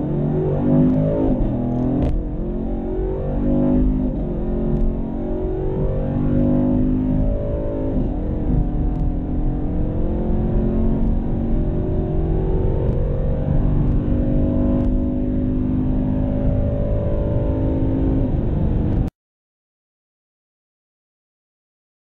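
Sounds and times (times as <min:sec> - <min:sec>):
car engine accelerating: 0:00.0 - 0:19.1.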